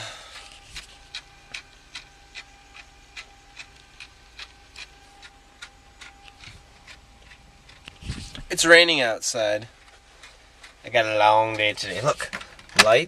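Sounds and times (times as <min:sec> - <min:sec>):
mechanical ticking: 0:00.0 - 0:11.7
faint steady hum: 0:00.0 - 0:13.0.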